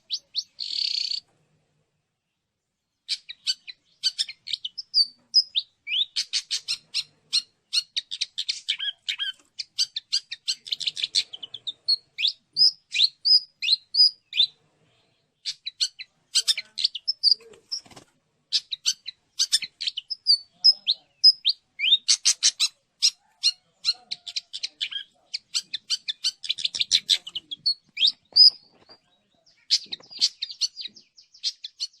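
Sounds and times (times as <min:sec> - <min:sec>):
bird chattering trills and chirps: 0:00.0 - 0:01.3, 0:03.0 - 0:14.7, 0:15.3 - 0:32.0.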